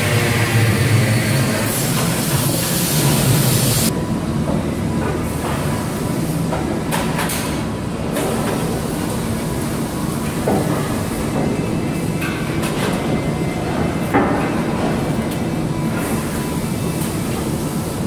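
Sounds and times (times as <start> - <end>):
industrial machinery hum: 0.0 - 18.0.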